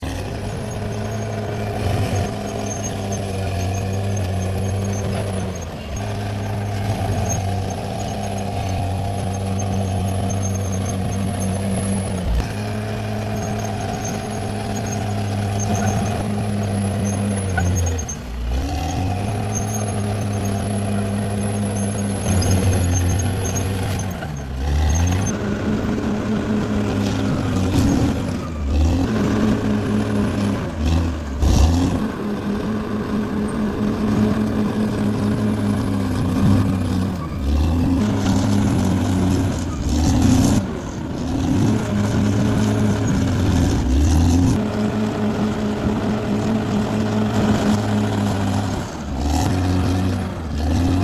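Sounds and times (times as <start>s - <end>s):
bulldozer engine under load: 0.0s - 51.0s.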